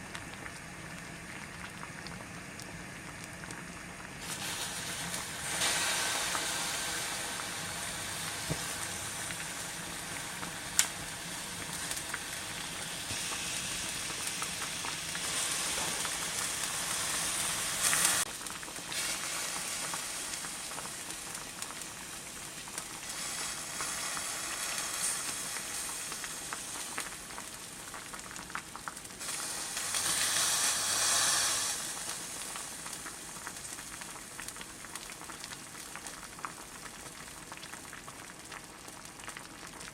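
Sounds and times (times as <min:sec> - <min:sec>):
food sizzling in frying: 0:00.0 - 0:39.9.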